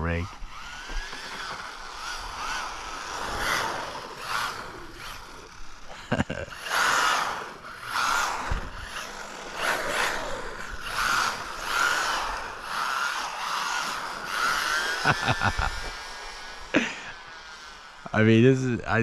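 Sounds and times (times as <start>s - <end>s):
rc car electric motor whining: 0.0s - 19.0s.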